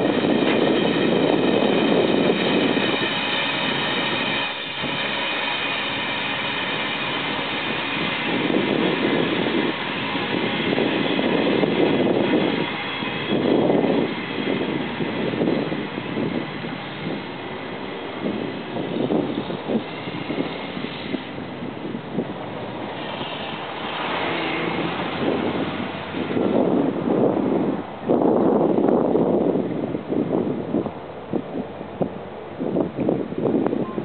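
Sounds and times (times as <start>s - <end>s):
train wheels rumbling on rails: 0.0s - 34.0s
wind gusting on microphone: 0.0s - 34.0s.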